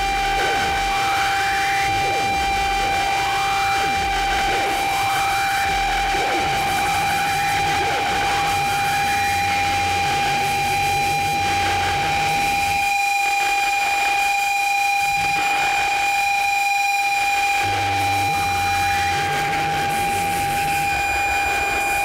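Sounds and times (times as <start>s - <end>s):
high feedback tone: 0.0s - 22.0s.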